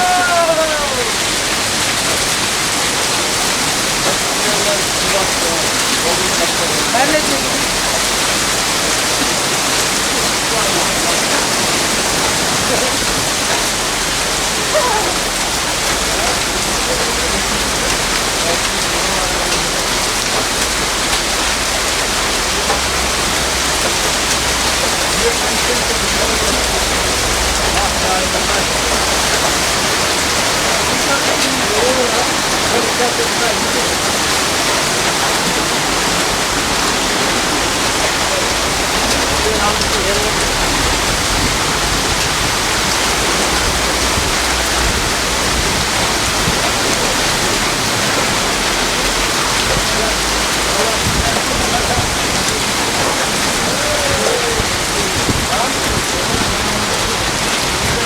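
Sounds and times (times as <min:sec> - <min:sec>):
heavy rain pouring: 0:00.0 - 0:58.0
running water: 0:00.0 - 0:58.0.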